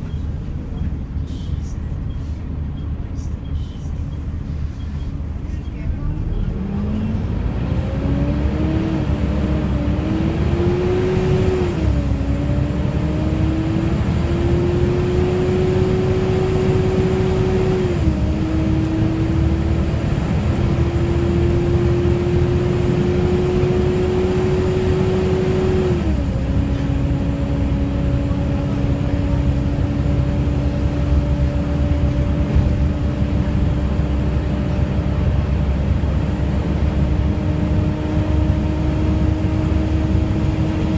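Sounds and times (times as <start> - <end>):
bus engine droning: 0.0 - 40.9.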